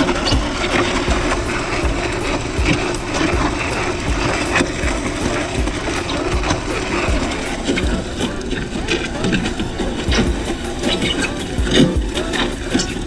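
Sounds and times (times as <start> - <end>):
concrete mixer motor drone: 0.0 - 13.0.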